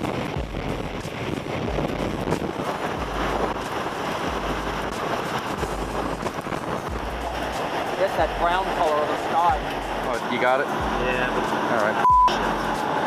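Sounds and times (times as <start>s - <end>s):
driving rain: 0.0s - 13.0s
strong wind blowing: 0.0s - 13.0s
wind gusts hitting microphone: 0.0s - 13.0s.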